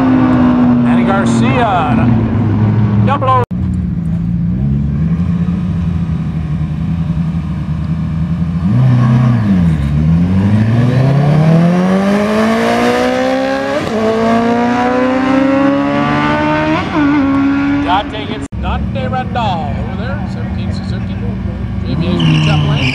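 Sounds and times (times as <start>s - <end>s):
motorcycle engines idling and revving: 0.0s - 22.9s
motorcycles accelerating: 0.0s - 22.9s.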